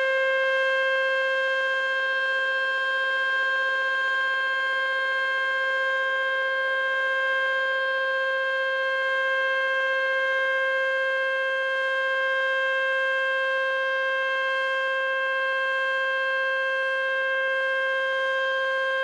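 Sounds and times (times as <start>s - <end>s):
warning siren steady tone: 0.0s - 19.0s.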